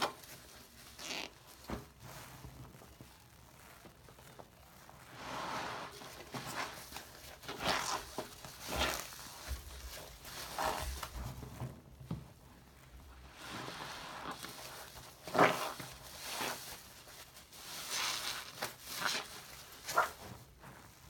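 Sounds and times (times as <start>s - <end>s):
wet squishing of foam sponge: 0.0s - 21.0s.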